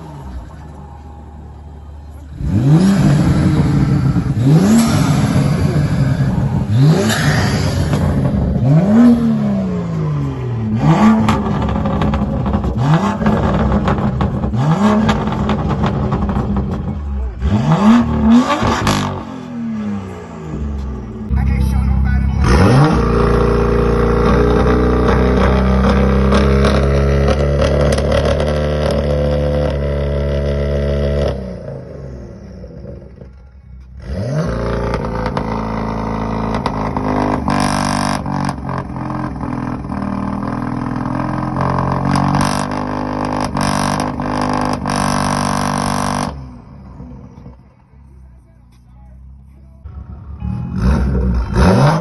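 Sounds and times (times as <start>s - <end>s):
car exhaust revving: 0.0s - 48.0s, 49.8s - 52.0s.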